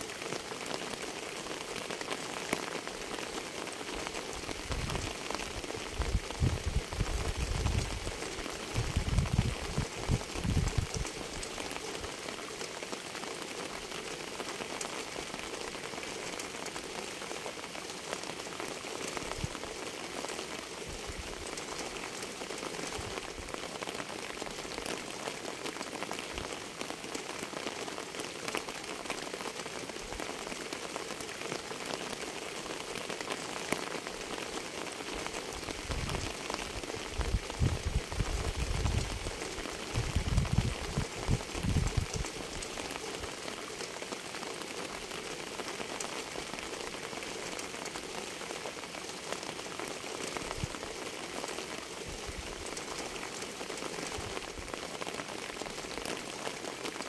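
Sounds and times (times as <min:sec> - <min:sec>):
rain on hard surface: 0:00.0 - 0:57.0.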